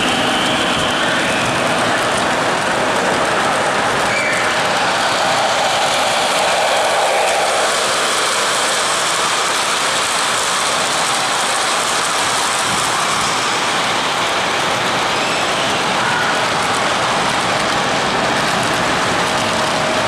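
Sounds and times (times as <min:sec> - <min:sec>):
model train wheels on track: 0:00.0 - 0:20.0.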